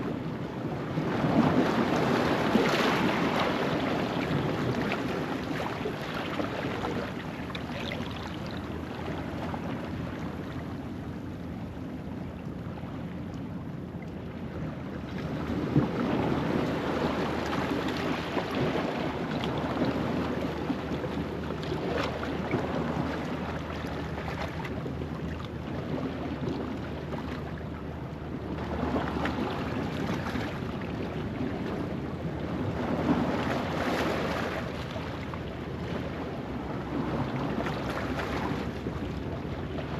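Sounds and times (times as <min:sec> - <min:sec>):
ocean waves on rocks: 0:00.0 - 0:11.1, 0:14.4 - 0:39.9.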